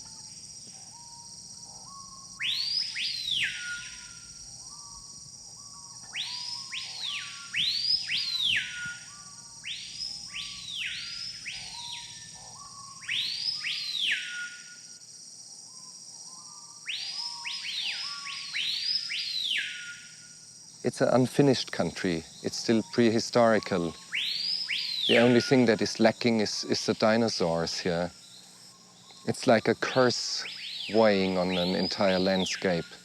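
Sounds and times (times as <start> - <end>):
softer lower bird calls: 0.0 - 15.0, 15.7 - 20.4, 22.8 - 26.0, 27.3 - 33.0
high insect drone: 0.0 - 33.0
birds giving whistled calls: 0.8 - 15.0, 15.7 - 20.3, 21.1 - 33.0.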